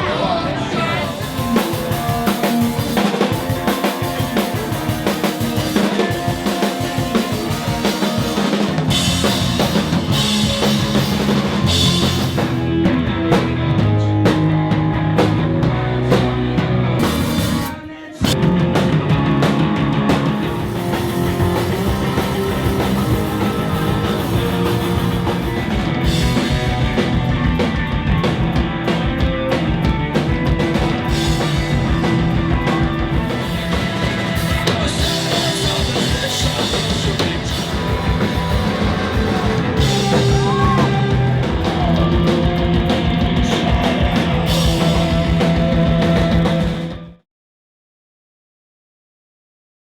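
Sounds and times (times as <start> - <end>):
loud rock band playing: 0.0 - 47.2.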